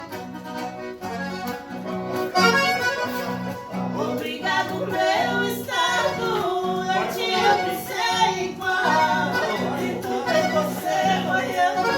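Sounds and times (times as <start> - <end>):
accordion playing melody: 0.0 - 11.9.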